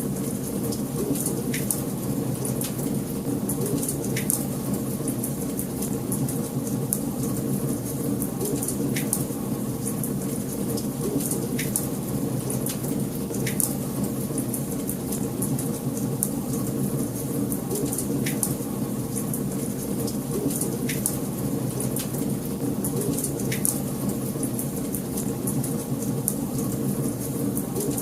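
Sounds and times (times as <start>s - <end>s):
wood fire rumbling and crackling: 0.0s - 28.0s.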